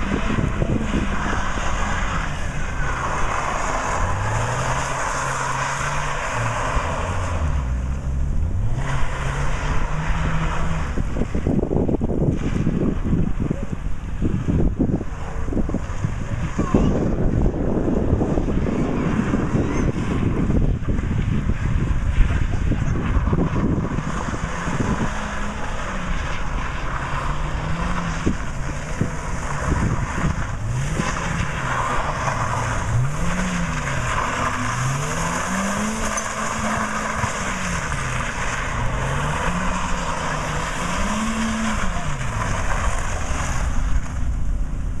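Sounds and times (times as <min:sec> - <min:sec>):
car engine revving: 0:00.0 - 0:45.0
wind noise: 0:00.0 - 0:45.0.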